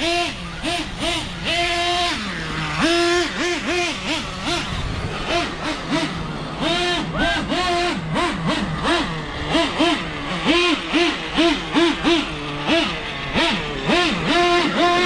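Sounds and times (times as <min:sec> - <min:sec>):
nitro engine revving: 0:00.0 - 0:15.0.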